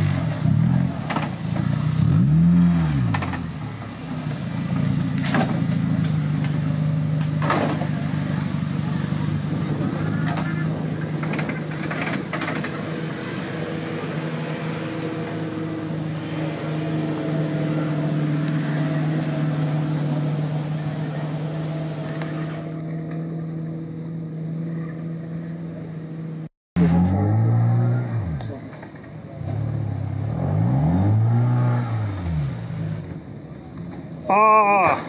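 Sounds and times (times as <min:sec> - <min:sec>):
engine revving: 0:00.0 - 0:33.2
off-road vehicle engine running: 0:00.0 - 0:35.0.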